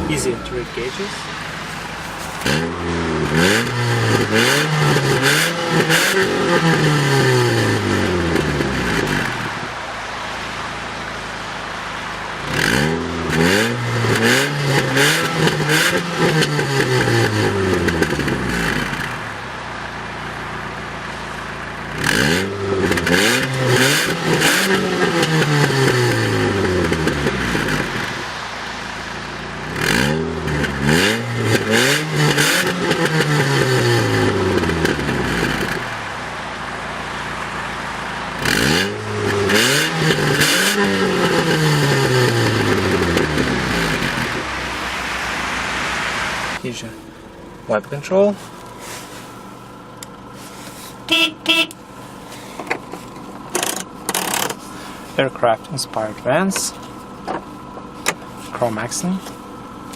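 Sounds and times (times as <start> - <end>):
car engine idling: 0.0 - 59.9
car engine revving: 0.0 - 59.9.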